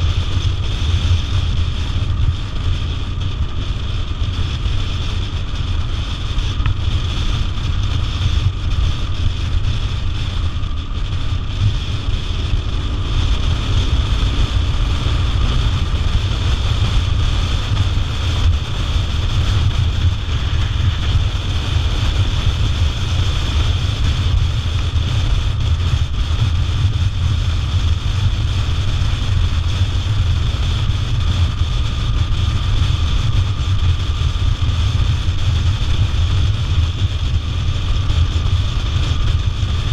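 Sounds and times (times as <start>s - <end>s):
motorcycle engine and road rumble: 0.0s - 39.9s
wind rushing over microphone: 0.0s - 39.9s.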